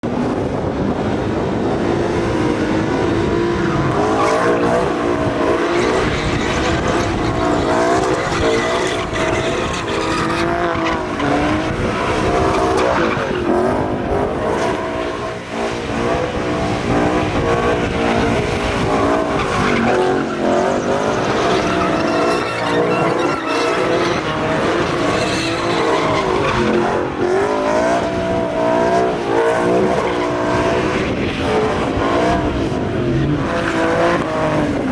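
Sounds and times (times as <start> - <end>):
car engines revving: 0.0 - 34.9
car tires squealing: 1.9 - 34.9.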